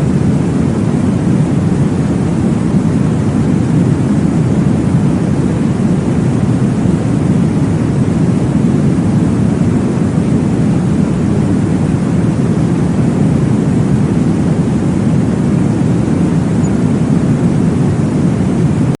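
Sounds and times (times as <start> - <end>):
deep whooshing white noise: 0.0 - 19.0.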